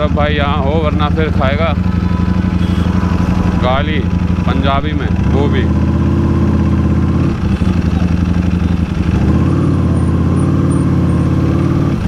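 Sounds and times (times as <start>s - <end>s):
motorcycle engine drone: 0.0s - 12.0s.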